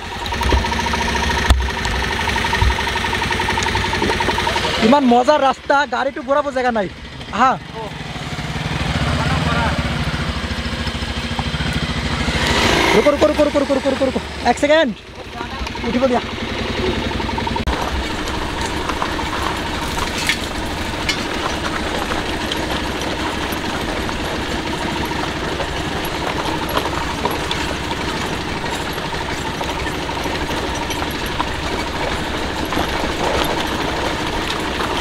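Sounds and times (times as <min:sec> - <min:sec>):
motorcycle engine on rough trail: 0:00.0 - 0:35.0.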